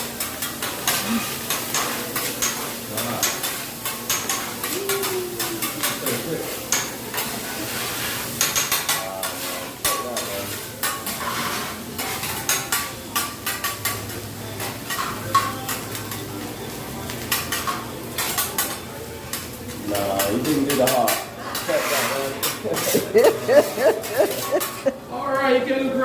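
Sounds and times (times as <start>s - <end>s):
food sizzling: 0.0s - 25.2s
metal utensils clattering and scraping: 0.2s - 16.3s, 17.2s - 25.0s.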